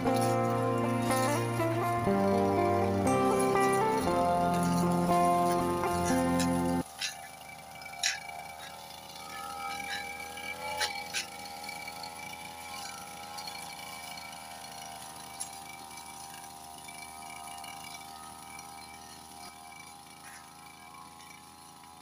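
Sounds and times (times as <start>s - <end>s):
brush cutter engine running: 0.0s - 22.0s.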